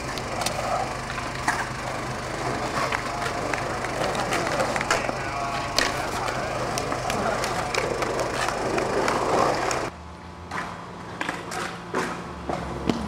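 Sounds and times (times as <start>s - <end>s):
skateboard clacks: 0.0s - 9.9s, 10.5s - 13.0s
skateboard wheels rolling on concrete: 0.0s - 13.0s.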